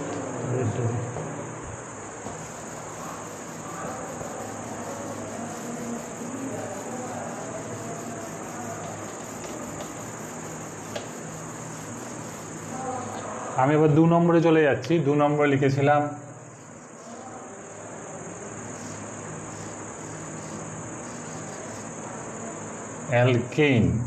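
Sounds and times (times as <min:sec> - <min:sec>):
faint low hum: 0:00.0 - 0:14.2, 0:14.8 - 0:24.0
high-pitched insect trill: 0:01.8 - 0:14.5, 0:15.6 - 0:24.0.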